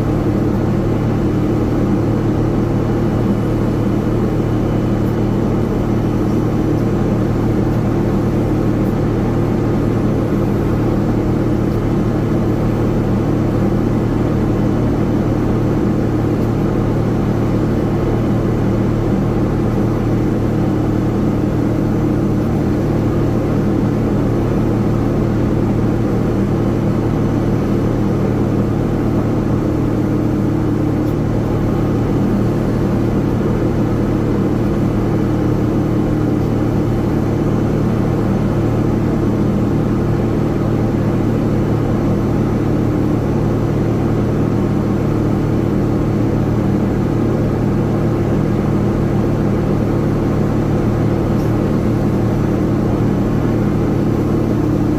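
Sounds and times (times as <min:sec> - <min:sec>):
engine rumble with low drone: 0:00.0 - 0:54.9.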